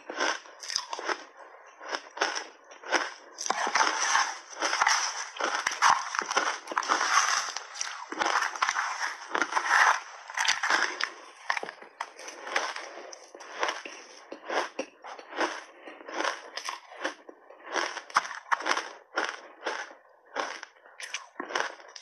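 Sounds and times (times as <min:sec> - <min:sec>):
crunchy chewing of ice: 0:00.0 - 0:22.0.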